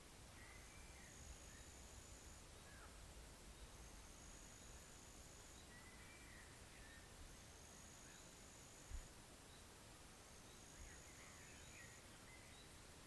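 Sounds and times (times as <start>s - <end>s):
faint bird chirps: 0.3s - 13.0s.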